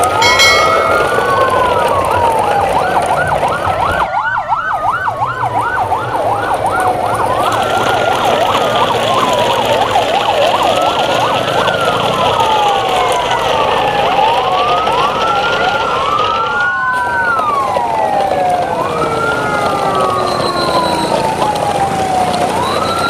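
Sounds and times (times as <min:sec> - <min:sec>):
second siren wailing: 0:00.0 - 0:23.0
siren rapid yelp: 0:00.0 - 0:23.0
siren wailing: 0:00.0 - 0:23.0.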